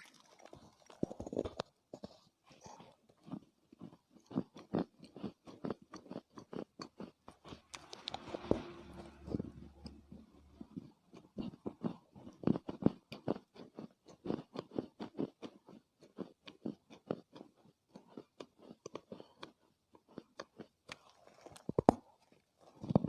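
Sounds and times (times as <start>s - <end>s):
chewing dry clay: 0.0s - 8.7s, 9.8s - 23.0s.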